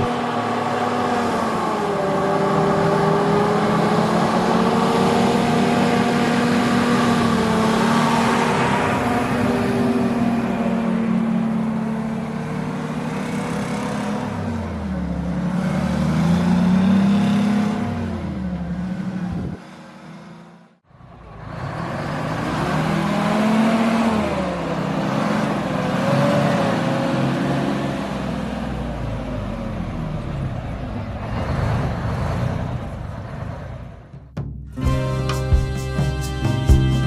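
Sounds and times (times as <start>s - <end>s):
truck engines revving: 0.0s - 37.0s.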